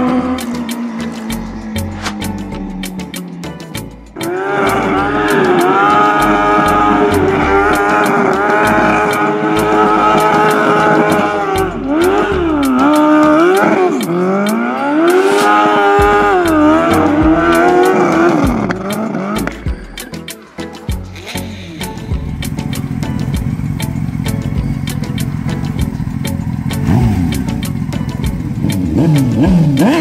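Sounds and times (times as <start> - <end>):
motorcycle engine at high revs: 0.0 - 2.3, 4.2 - 19.6, 22.4 - 30.0.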